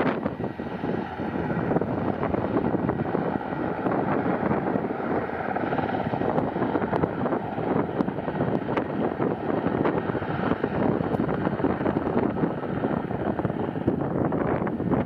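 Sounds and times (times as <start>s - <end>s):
helicopter rotor and engines: 0.0s - 15.0s
wind on microphone: 0.0s - 15.0s.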